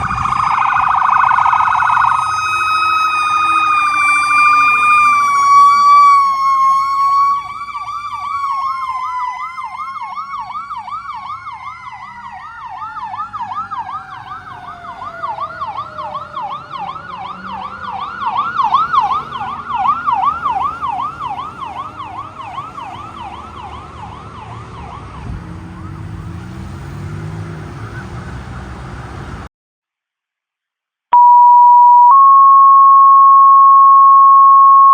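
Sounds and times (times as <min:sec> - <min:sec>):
fast yelping siren: 0:00.0 - 0:28.3
wailing siren: 0:00.0 - 0:29.5.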